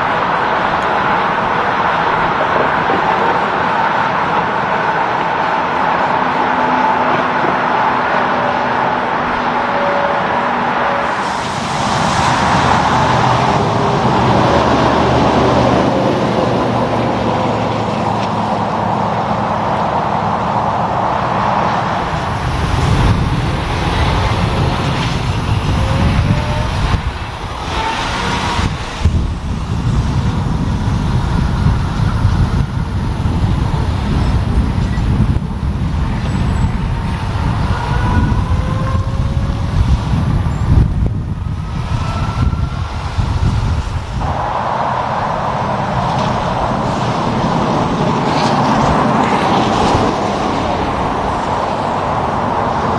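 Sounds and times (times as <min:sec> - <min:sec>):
diesel truck engines: 0:00.0 - 0:52.9
traffic rumble: 0:00.0 - 0:52.9.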